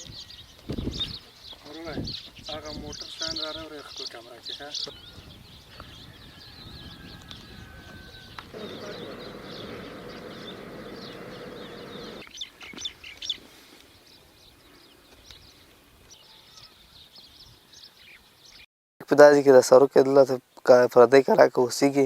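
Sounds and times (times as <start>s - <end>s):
small birds chirping: 0.0s - 18.7s.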